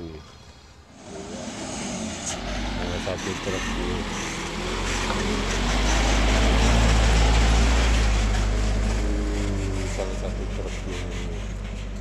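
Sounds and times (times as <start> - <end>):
dump truck driving past: 0.9 - 12.0.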